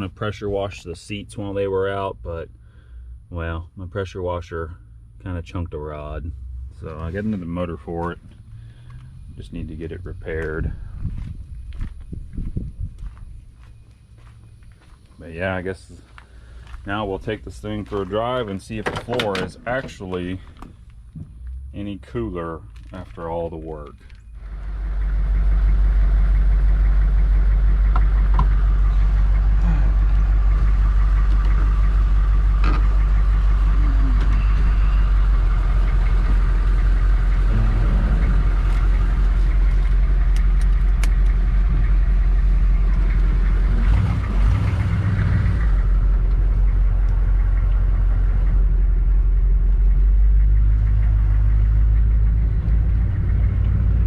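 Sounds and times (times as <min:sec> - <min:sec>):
car engine rumble: 0:00.0 - 0:54.0
road noise: 0:00.0 - 0:54.0.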